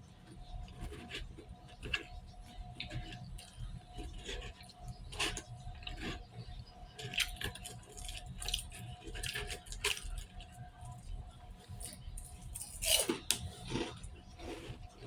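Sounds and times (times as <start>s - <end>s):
wet chewing and smacking: 0.3s - 15.0s.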